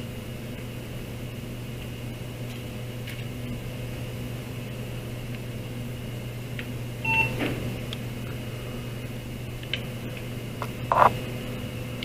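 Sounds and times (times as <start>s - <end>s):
computer equipment humming: 0.0s - 12.0s.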